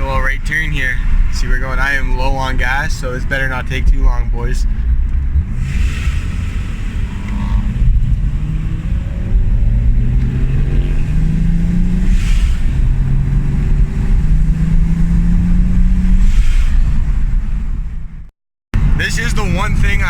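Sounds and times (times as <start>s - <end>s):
turbocharged car accelerating: 0.0s - 20.0s.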